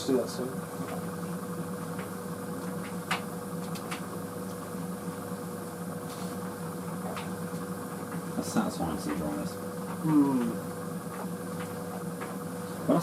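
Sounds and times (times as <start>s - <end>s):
tumble dryer motor and fan hum: 0.0s - 13.0s.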